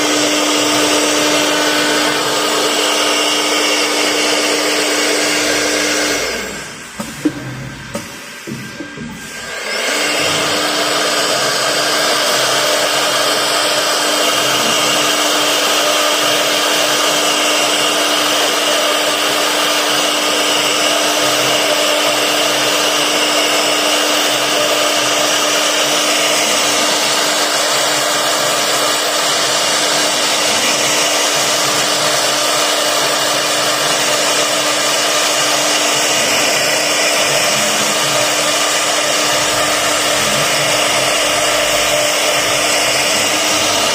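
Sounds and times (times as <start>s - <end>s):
router spindle running: 0.0s - 43.9s.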